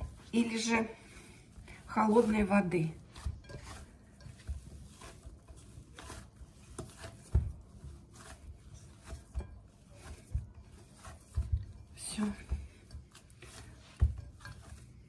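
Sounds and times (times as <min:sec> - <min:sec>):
hands kneading dough: 0:00.0 - 0:15.0.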